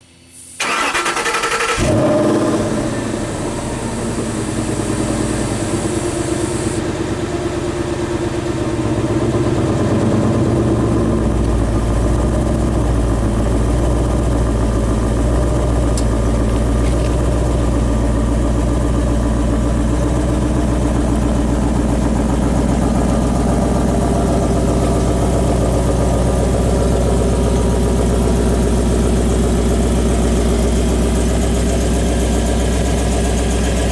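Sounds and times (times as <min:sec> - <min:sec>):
car engine starting and idling: 0:00.1 - 0:33.9.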